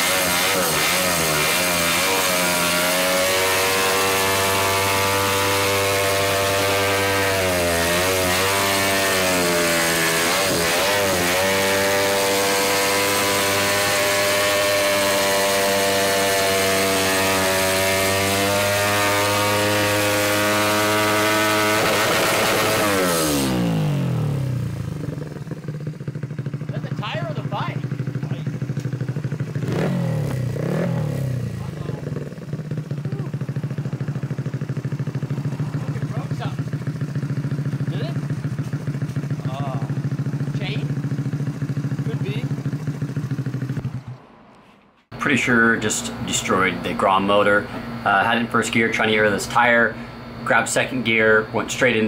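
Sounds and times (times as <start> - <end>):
motorcycle engine revving high: 0.0 - 52.0.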